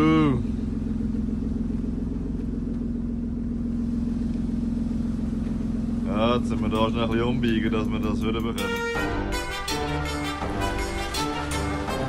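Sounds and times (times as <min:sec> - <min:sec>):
engine humming: 0:00.0 - 0:12.0
low rumble: 0:00.0 - 0:12.0.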